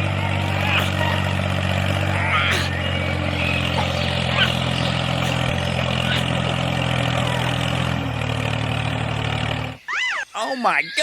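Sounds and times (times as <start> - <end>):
motor humming: 0.0 - 9.9.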